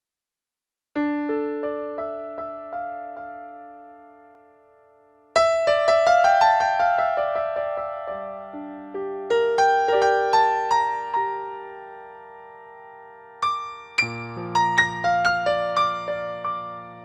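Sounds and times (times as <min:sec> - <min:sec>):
solo piano music: 0:01.0 - 0:17.0.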